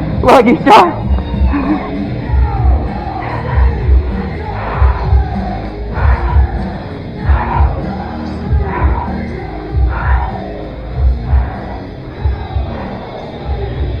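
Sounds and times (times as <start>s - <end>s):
rock music: 0.0s - 14.0s
heavy drum beat: 0.9s - 14.0s.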